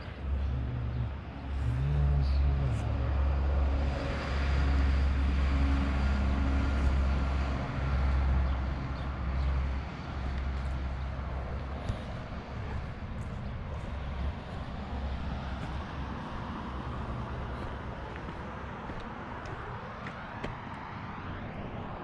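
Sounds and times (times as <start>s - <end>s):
vehicle engine running: 0.0s - 20.8s
tyre and road noise: 0.0s - 22.0s.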